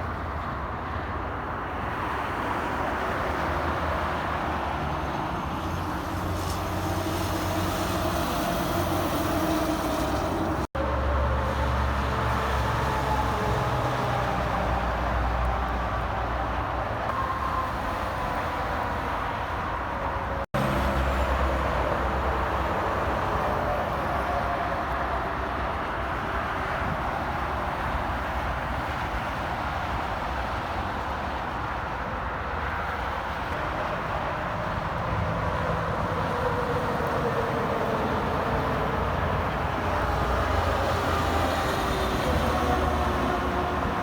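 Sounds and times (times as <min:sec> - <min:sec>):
highway traffic passing: 0:00.0 - 0:44.0.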